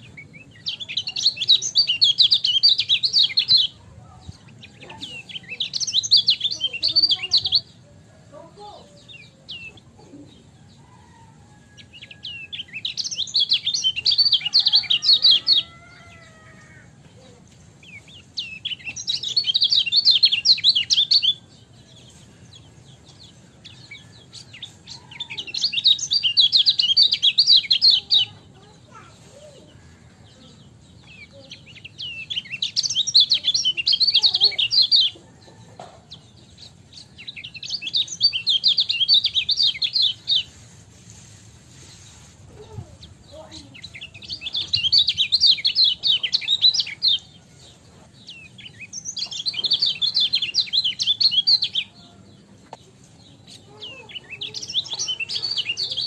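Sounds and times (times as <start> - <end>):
bird chattering song: 0.0 - 40.8, 41.9 - 56.0.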